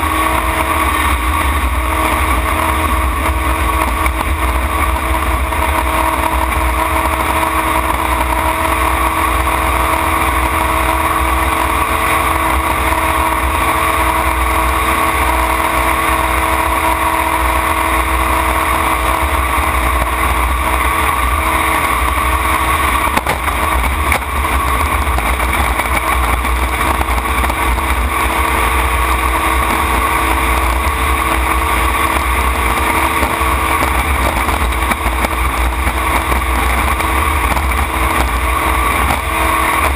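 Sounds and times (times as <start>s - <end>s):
boat engine running: 0.0s - 39.9s
water and wind rush: 0.0s - 39.9s.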